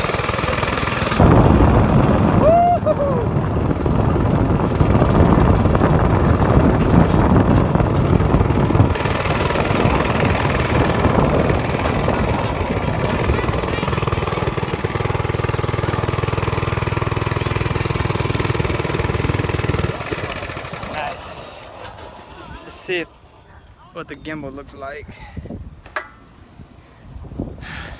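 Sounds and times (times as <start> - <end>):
small engine running: 0.0 - 23.7.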